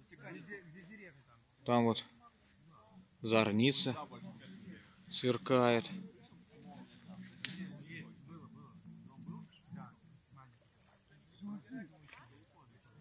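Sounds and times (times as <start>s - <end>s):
crickets chirring: 0.0s - 13.0s
faint distant voices: 0.0s - 13.0s.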